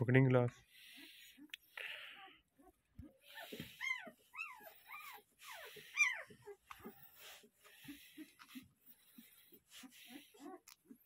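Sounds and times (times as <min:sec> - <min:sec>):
puppies whimpering: 0:00.6 - 0:11.0.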